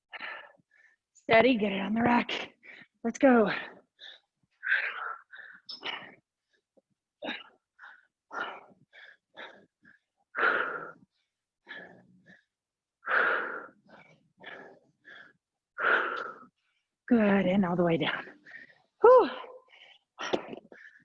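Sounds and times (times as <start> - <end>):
woman breathing hard: 0.1 - 1.1, 3.6 - 16.9, 18.3 - 21.0.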